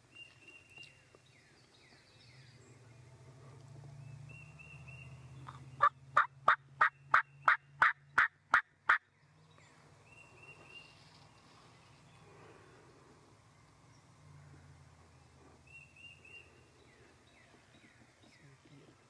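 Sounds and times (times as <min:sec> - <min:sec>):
small birds chirping: 0:00.0 - 0:06.0, 0:08.9 - 0:19.0.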